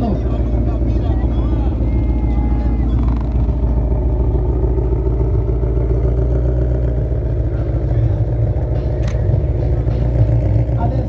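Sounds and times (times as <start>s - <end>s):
car engine idling loudly: 0.0s - 11.0s.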